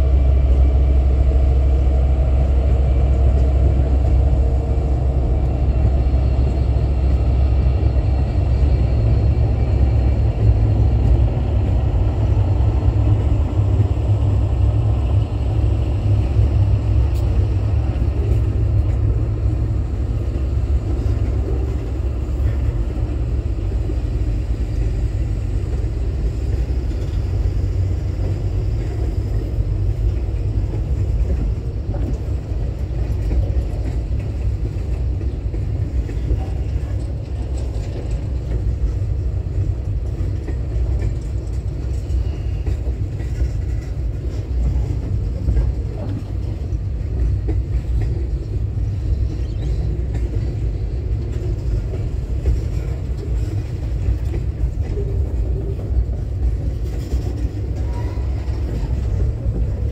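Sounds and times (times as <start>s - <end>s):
freight train wagons rumbling past: 0.0s - 59.9s.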